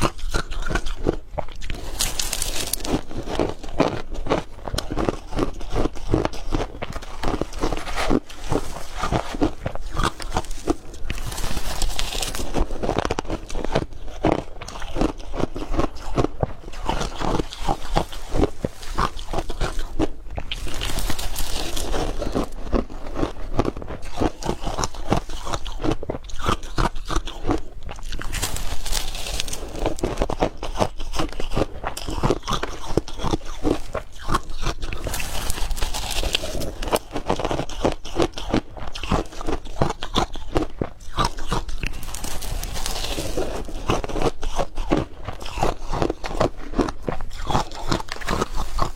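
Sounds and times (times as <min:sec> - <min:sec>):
crushed ice being chewed: 0:00.0 - 0:48.9.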